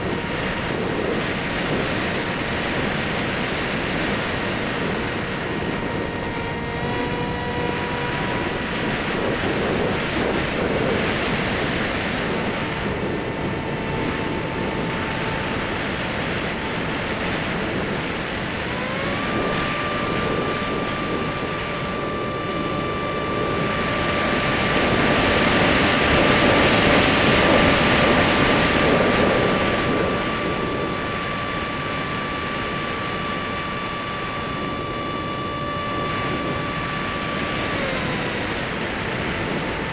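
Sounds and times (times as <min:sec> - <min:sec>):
electric motor whine: 0:00.0 - 0:39.9
rushing wind noise: 0:00.0 - 0:39.9.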